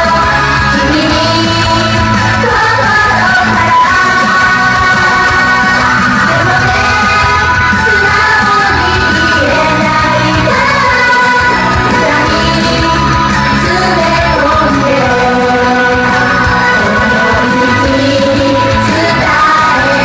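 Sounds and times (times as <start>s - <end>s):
pop-rock backing track: 0.0s - 20.0s
women singing together: 0.0s - 20.0s.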